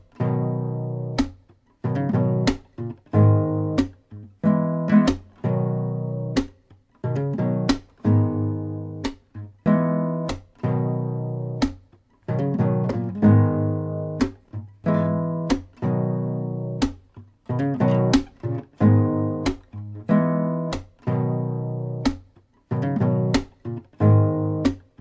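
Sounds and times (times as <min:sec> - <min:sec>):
strummed guitar chords: 0:00.0 - 0:25.0.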